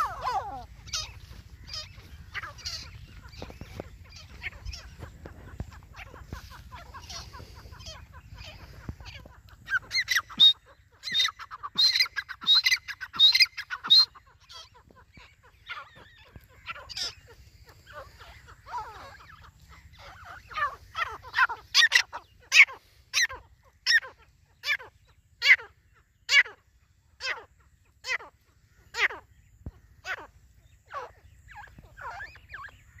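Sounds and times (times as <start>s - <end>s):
francolin calling: 0.0s - 33.0s.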